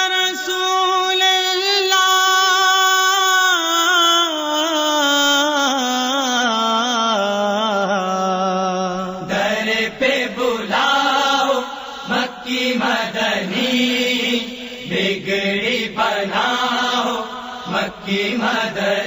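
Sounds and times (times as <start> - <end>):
person singing in chanting style: 0.0 - 19.0.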